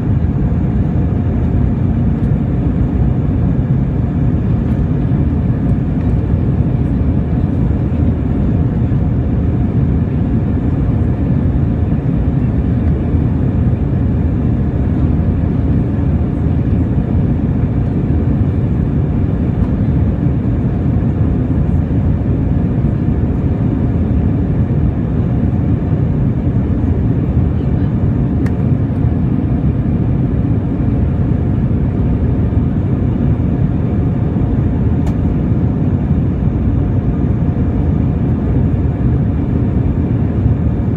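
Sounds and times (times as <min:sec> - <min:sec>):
aircraft cabin drone: 0:00.0 - 0:40.9
faint steady hum tones: 0:00.0 - 0:40.9.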